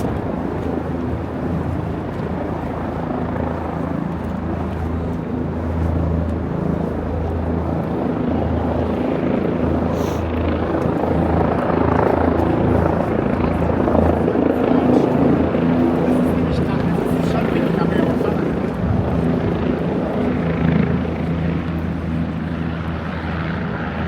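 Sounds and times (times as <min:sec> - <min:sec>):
outdoor city noise: 0:00.0 - 0:24.0.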